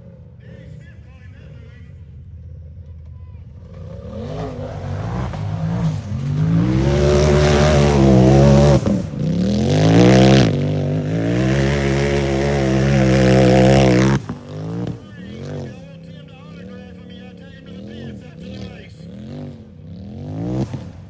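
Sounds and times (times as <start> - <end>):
race engine revving: 2.9 - 21.0.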